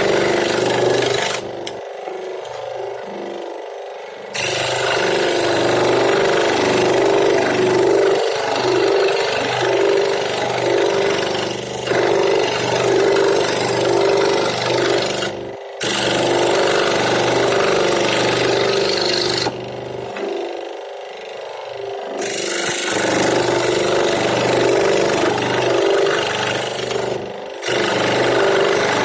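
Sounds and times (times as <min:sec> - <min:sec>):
power tool cutting wood: 0:00.0 - 0:29.0.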